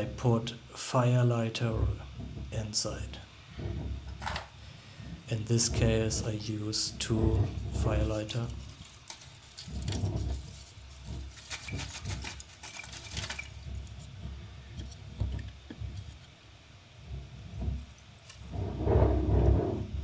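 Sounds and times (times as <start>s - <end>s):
soft knocks and scraping: 1.6s - 16.4s, 17.0s - 20.0s
crackly rustling: 1.6s - 20.0s.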